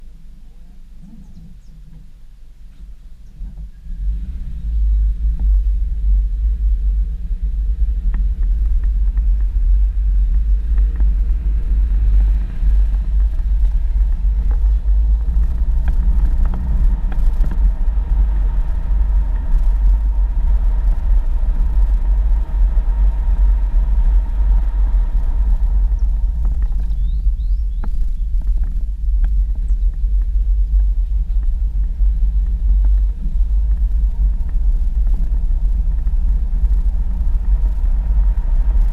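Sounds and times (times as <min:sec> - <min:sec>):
vehicle rumbling on dirt road: 0:00.0 - 0:38.9.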